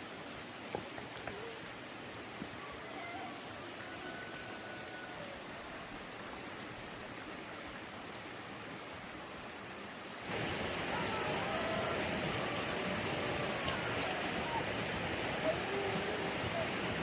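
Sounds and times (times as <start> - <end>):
steady outdoor background noise: 0.0 - 17.0.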